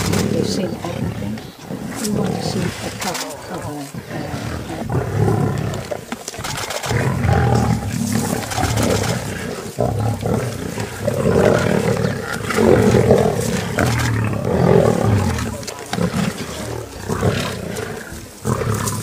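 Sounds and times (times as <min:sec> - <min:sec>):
lions growling: 0:00.0 - 0:19.0.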